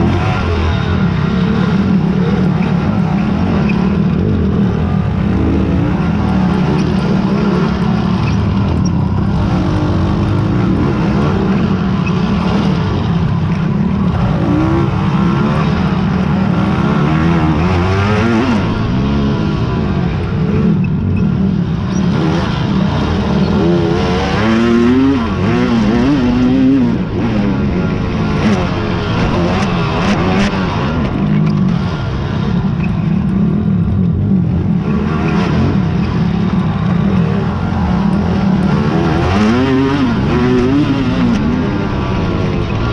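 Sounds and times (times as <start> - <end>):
atv engines revving: 0.0 - 42.9.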